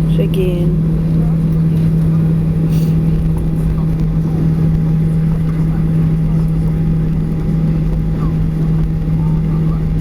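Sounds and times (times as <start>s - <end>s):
airliner engines humming: 0.0s - 10.0s
low rumble: 0.0s - 10.0s.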